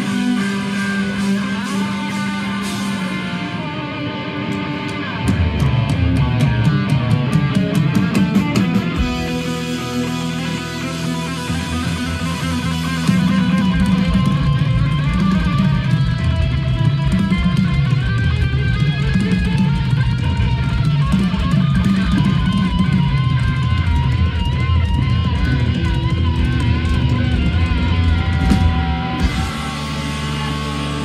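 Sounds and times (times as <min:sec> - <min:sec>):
heavy metal band playing live: 0:00.0 - 0:31.0.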